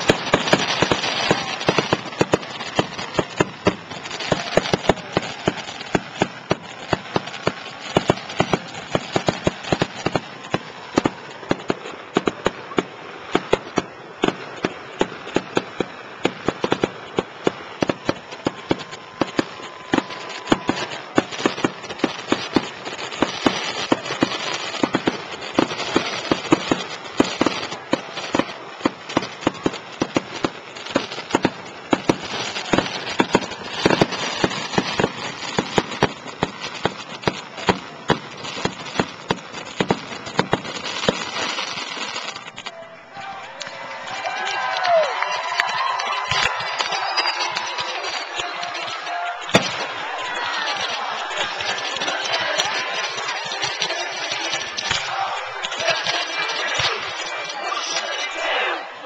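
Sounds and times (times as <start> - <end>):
fireworks bangs: 0.0 - 58.9
fireworks crackle and hiss: 0.0 - 59.0.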